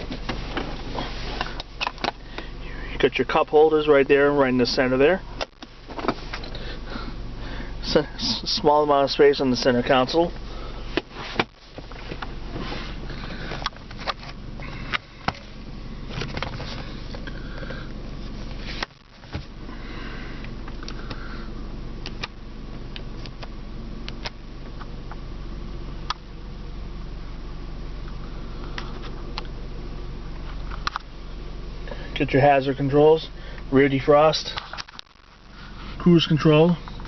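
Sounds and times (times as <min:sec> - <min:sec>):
car cabin hum: 0:00.0 - 0:37.0.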